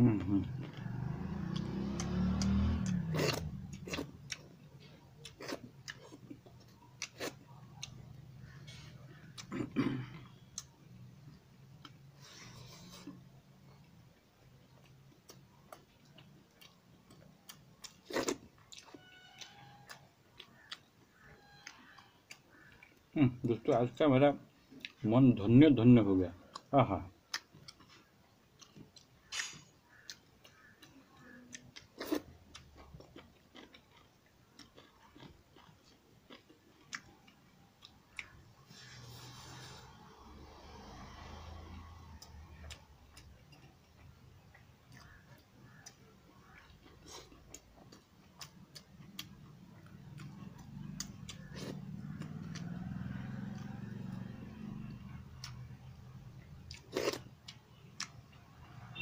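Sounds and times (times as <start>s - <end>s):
chewing and mouth sounds: 0.1s - 10.8s, 11.7s - 23.1s, 26.4s - 40.0s, 41.0s - 58.6s.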